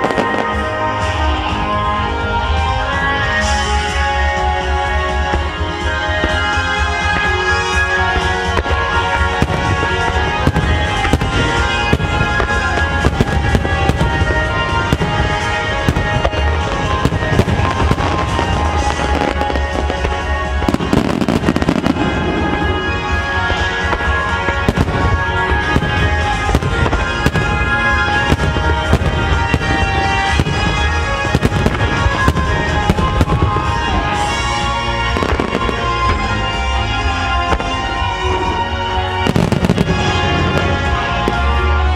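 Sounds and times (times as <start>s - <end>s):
music playing: 0.0s - 41.9s
firework shells bursting and crackling: 5.0s - 41.9s.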